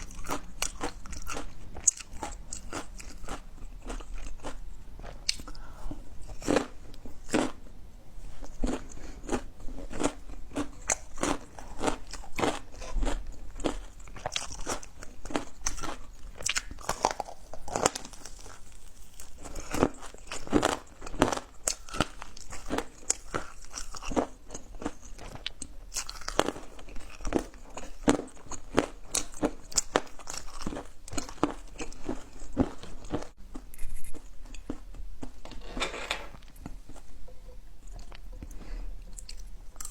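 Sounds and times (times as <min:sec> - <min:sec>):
person chewing crunchy food: 0:00.0 - 0:37.1, 0:37.8 - 0:39.9.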